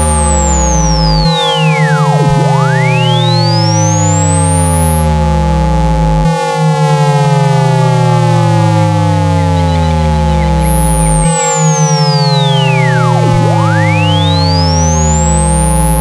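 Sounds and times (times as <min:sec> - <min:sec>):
falling tones: 0:00.0 - 0:06.9, 0:08.8 - 0:16.0
low pulsing hum: 0:00.0 - 0:06.9, 0:08.1 - 0:16.0
sweeping electronic tone: 0:00.0 - 0:06.9, 0:08.8 - 0:16.0
steady held tones: 0:00.0 - 0:07.0, 0:08.6 - 0:16.0.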